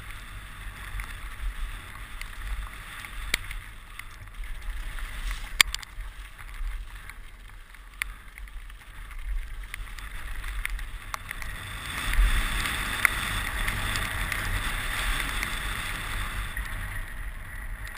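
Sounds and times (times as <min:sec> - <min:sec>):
bike clicks and knocks: 0:00.0 - 0:15.6
tyres rolling on dirt and gravel: 0:00.0 - 0:17.9.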